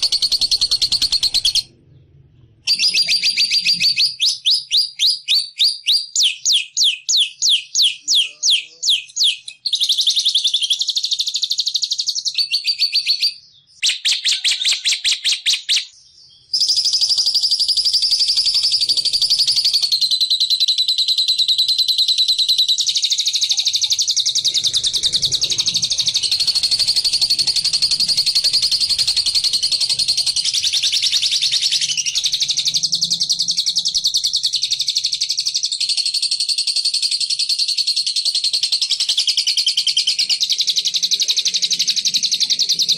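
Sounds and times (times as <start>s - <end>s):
songbird chirping and trilling: 0.0s - 42.9s.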